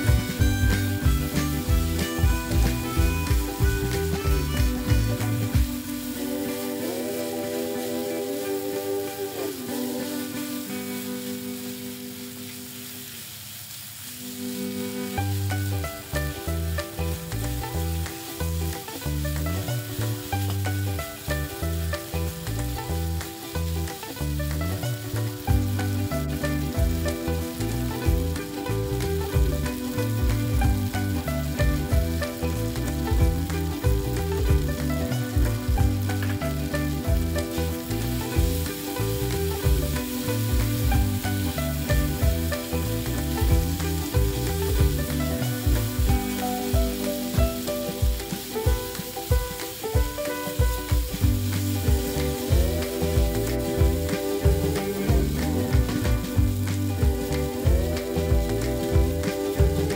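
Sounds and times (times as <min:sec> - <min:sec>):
background music with bass: 0:00.0 - 0:11.1, 0:14.8 - 0:59.9
beef and onions sizzling: 0:00.0 - 0:59.9.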